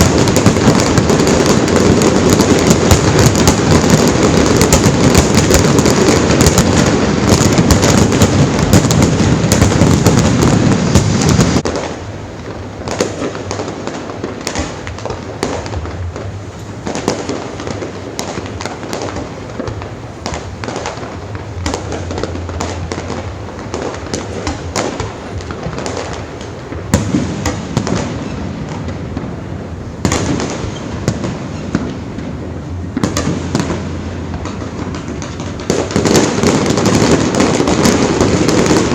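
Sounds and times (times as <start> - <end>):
fireworks bangs: 0.0 - 38.9
fireworks pops and crackles: 0.0 - 38.9.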